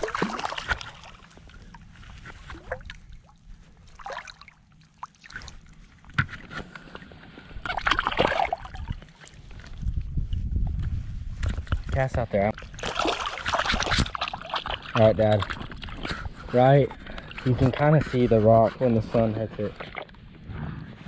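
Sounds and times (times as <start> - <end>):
shallow water sloshing and splashing: 0.0 - 10.4, 12.5 - 18.5, 19.5 - 20.3.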